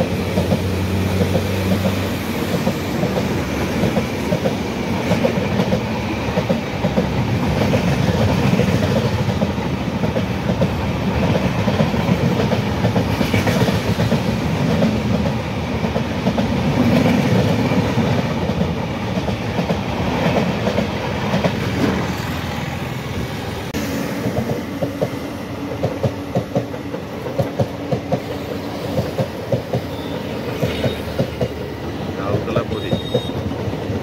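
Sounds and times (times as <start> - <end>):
wheels clattering on rails: 0.0 - 22.4, 24.2 - 34.0
train coaches rumbling past: 0.0 - 34.0.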